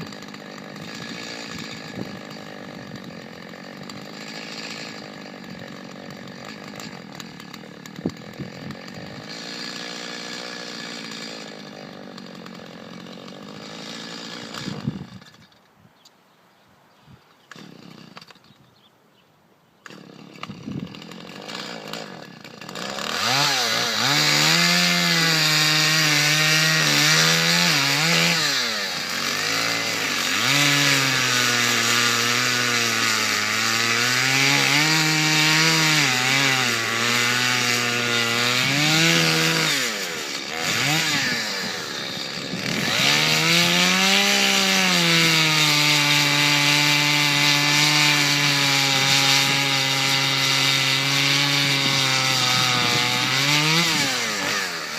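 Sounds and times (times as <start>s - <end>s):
chainsaw cutting wood: 0.0s - 15.8s, 17.4s - 18.7s, 19.8s - 54.9s.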